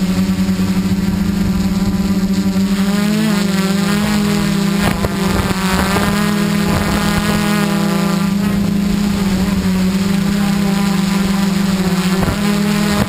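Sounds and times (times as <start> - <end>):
quadcopter motors humming: 0.0 - 13.0.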